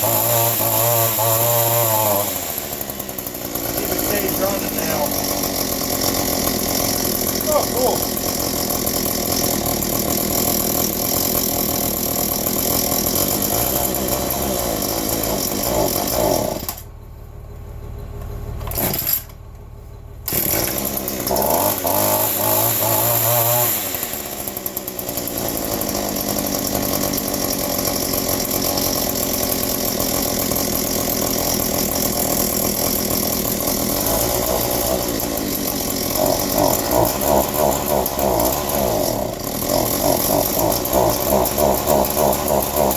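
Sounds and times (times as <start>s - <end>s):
weed eater engine running: 0.0s - 17.0s, 18.6s - 19.4s, 20.2s - 42.9s.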